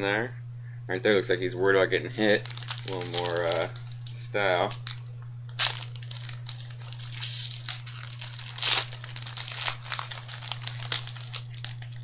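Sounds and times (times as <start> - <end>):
steady low hum: 0.0 - 12.0
plastic wrapper crinkling and tearing: 2.4 - 12.0.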